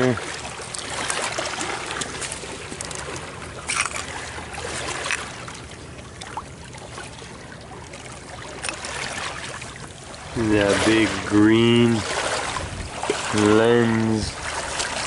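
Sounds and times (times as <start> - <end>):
water lapping among stones: 0.0 - 15.0.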